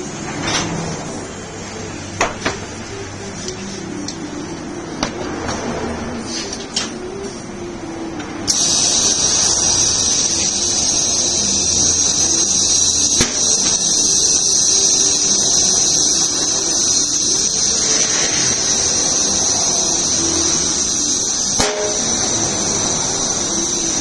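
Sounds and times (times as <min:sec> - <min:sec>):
machine high-pitched whine and hiss: 0:00.0 - 0:24.0.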